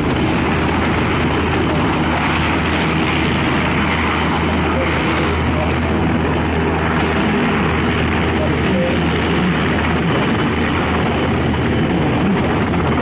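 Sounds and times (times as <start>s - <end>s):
helicopter flying: 0.0s - 13.0s.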